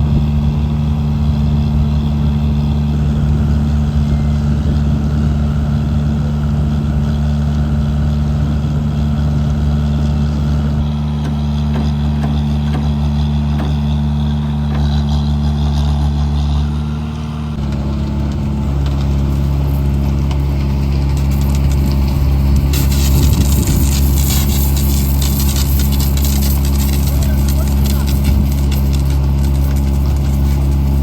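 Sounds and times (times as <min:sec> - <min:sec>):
construction machinery engine humming: 0:00.0 - 0:31.0.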